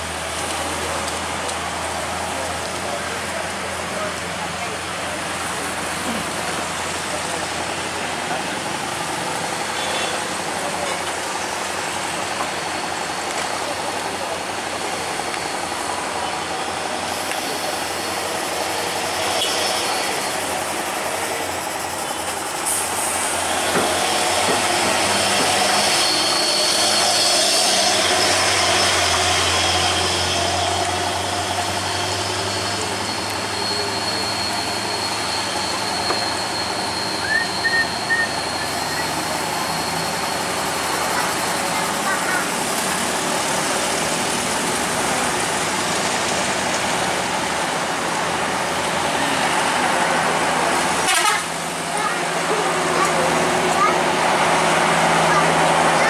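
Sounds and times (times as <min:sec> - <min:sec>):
heavy engine hum: 0:00.0 - 0:56.0
tyres on wet road: 0:00.0 - 0:56.0
vehicles passing and climbing: 0:00.0 - 0:56.0.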